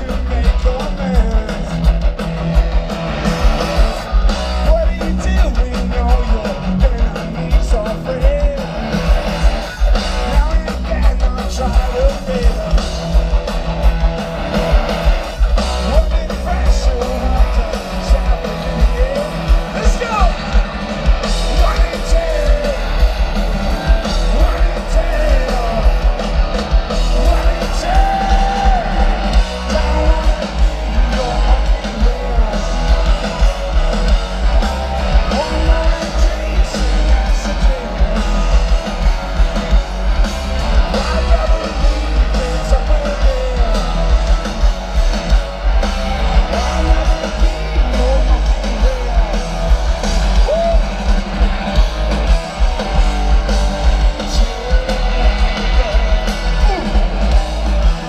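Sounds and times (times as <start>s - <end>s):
man singing lead vocal: 0.0s - 2.2s, 3.4s - 13.2s, 15.6s - 45.4s, 46.2s - 51.5s, 52.2s - 58.0s
live rock band: 0.0s - 58.0s.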